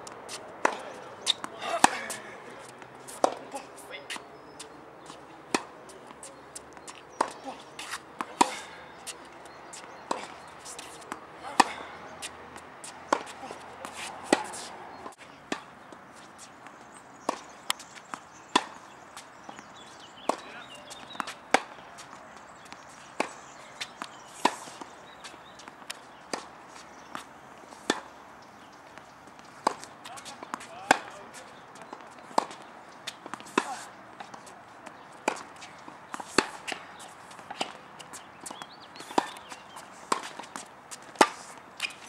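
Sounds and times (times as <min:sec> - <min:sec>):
tennis ball hit by rackets: 0:00.0 - 0:16.5, 0:17.2 - 0:28.1, 0:28.9 - 0:42.0.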